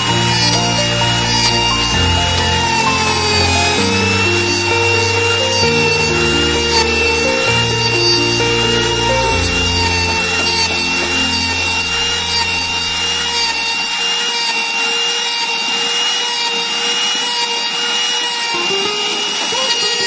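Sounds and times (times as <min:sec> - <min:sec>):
router whining cutting wood: 0:00.0 - 0:20.0.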